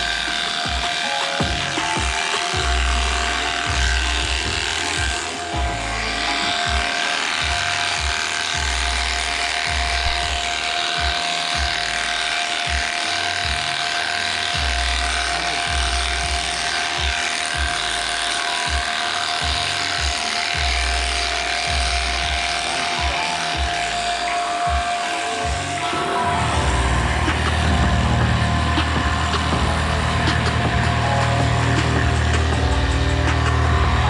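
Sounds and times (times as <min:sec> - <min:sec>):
electric clipper humming: 0:00.0 - 0:34.0
music with pulsing bass beat: 0:00.0 - 0:34.0.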